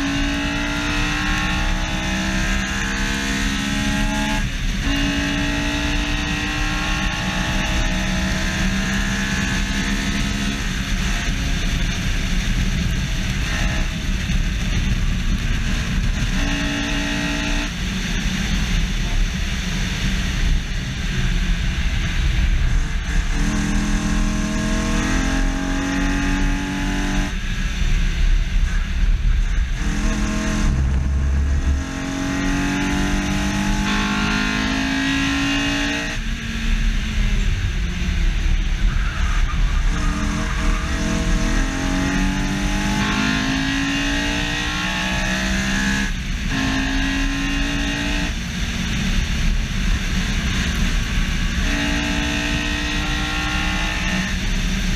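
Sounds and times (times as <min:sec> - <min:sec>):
car engine revving hard: 0:00.0 - 0:28.1, 0:28.7 - 0:54.9
road rumble: 0:00.0 - 0:54.9
wind noise: 0:00.0 - 0:54.9.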